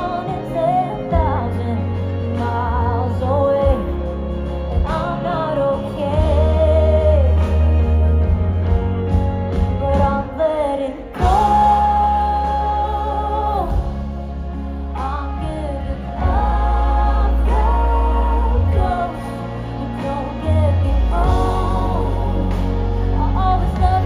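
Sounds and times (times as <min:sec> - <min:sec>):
woman singing: 0:00.0 - 0:08.0, 0:09.6 - 0:24.0
live pop-rock band: 0:00.0 - 0:24.0.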